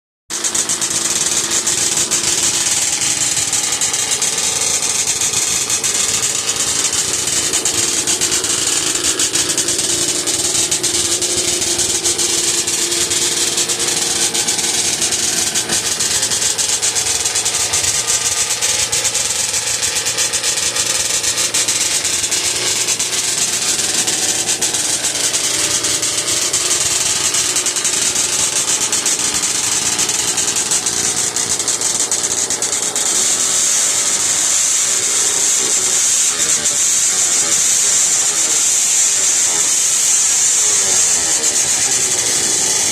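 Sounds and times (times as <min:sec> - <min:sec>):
snowmobile engine idling: 0:00.3 - 0:42.9.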